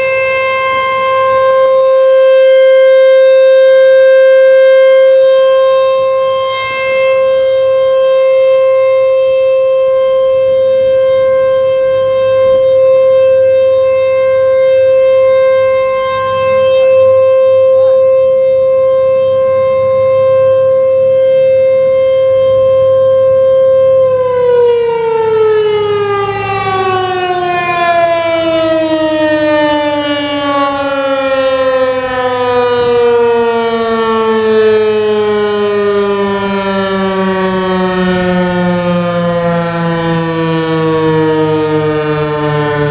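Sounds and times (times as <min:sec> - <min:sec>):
siren winding down: 0:00.0 - 0:42.9
warning siren steady tone: 0:00.0 - 0:42.9.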